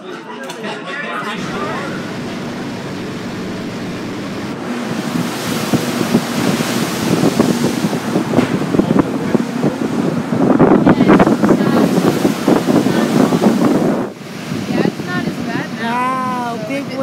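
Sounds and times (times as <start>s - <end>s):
wind buffeting microphone: 1.4s - 17.0s.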